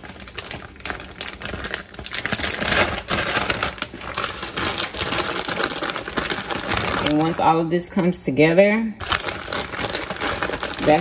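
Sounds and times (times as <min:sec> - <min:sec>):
plastic bag crinkling: 0:00.0 - 0:07.7, 0:09.0 - 0:11.0.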